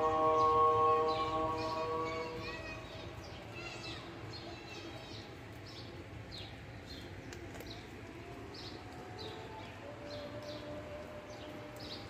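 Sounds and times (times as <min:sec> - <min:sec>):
low steady outdoor rumble: 0:00.0 - 0:12.0.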